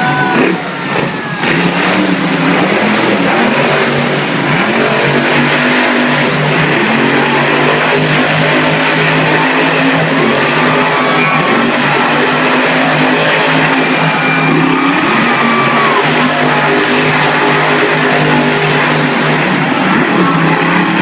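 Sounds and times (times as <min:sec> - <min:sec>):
truck engine at high revs: 0:00.0 - 0:21.0.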